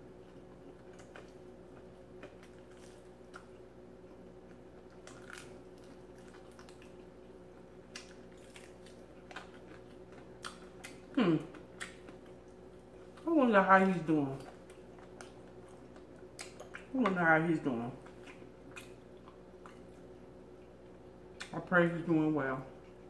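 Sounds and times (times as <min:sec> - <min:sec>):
faint hum: 0:00.0 - 0:23.0
wet chewing: 0:00.2 - 0:17.3, 0:18.0 - 0:21.6.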